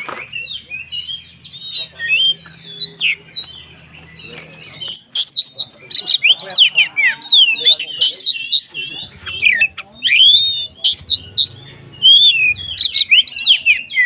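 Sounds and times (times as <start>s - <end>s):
bird singing whistled song: 0.0s - 14.0s.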